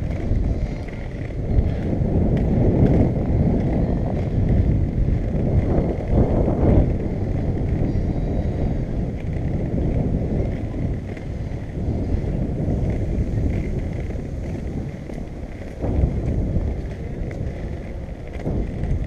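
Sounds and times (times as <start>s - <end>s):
skate wheels rolling on pavers: 0.0s - 19.0s
wind buffeting microphone: 0.0s - 19.0s.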